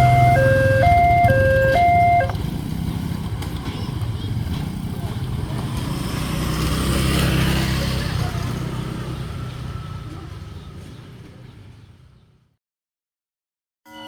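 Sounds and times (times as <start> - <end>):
rumble of passing vehicles: 0.0 - 12.6.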